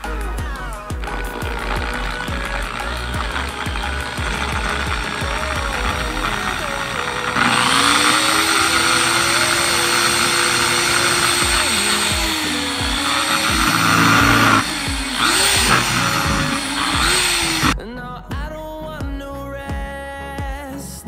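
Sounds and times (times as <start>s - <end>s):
electric drill boring through plastic: 0.0s - 17.8s.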